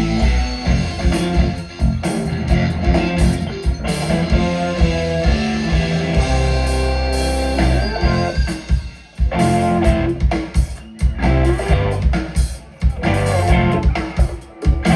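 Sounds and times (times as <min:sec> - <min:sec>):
electric guitar: 0:00.0 - 0:14.9
rock band playing live: 0:00.0 - 0:14.9.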